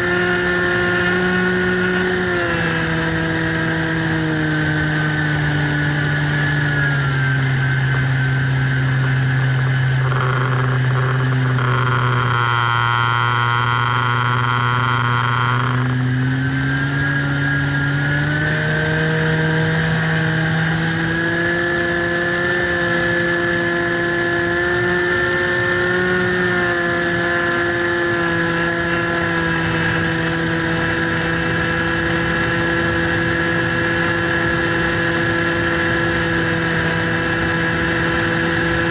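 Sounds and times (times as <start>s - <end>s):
buzzy tone: 0.0s - 38.9s
model plane motor: 0.0s - 38.9s.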